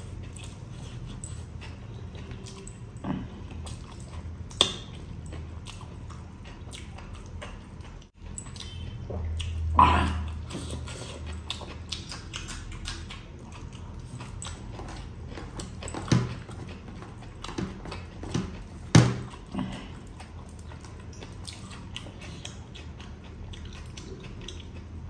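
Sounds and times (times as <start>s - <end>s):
man chewing food: 0.0s - 25.0s.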